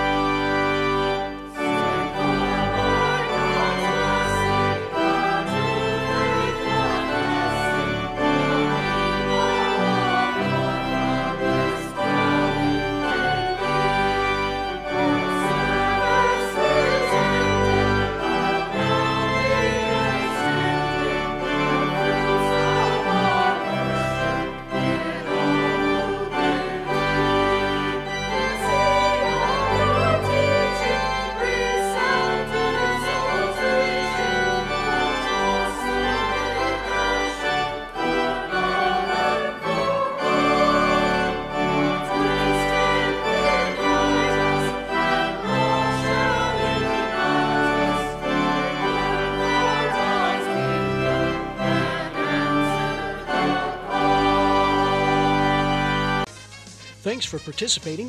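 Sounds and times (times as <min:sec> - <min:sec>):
small choir singing: 0:00.0 - 0:56.3
pipe organ playing a hymn: 0:00.0 - 0:56.4.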